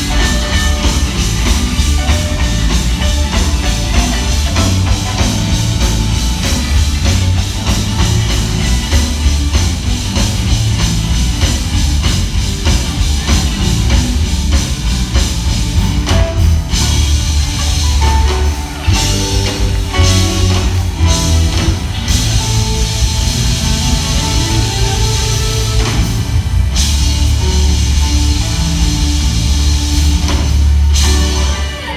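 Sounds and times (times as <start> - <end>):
live band playing: 0.0 - 31.9.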